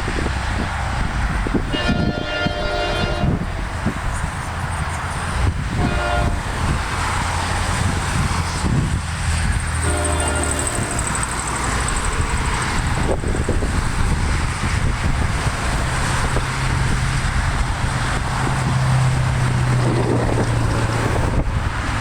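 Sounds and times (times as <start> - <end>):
vehicle engine droning: 0.0 - 22.0
wind buffeting microphone: 0.0 - 22.0.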